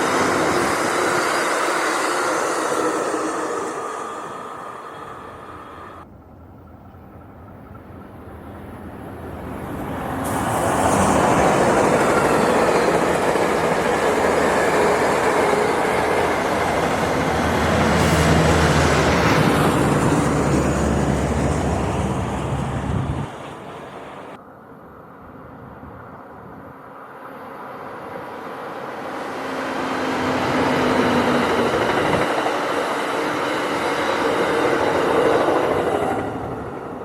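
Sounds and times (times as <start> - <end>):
train wheels rushing on rails: 0.0 - 24.4, 27.6 - 37.0.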